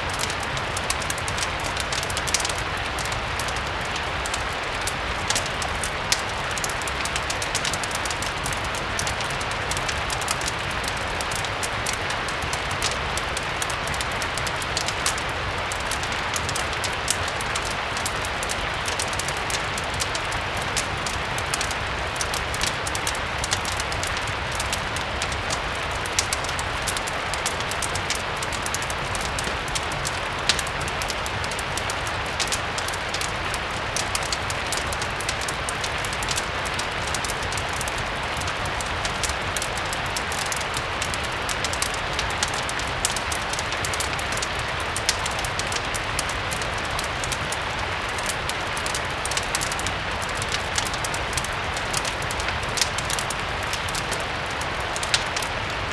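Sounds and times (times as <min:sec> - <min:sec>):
fireplace crackling: 0:00.0 - 0:55.9
steady rain hiss: 0:00.0 - 0:55.9.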